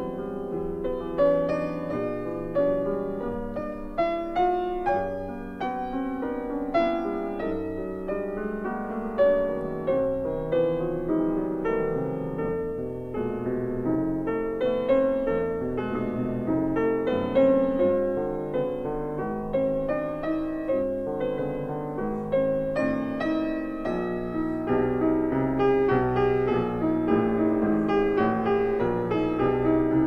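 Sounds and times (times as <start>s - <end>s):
slow gentle piano music: 0.0s - 30.0s.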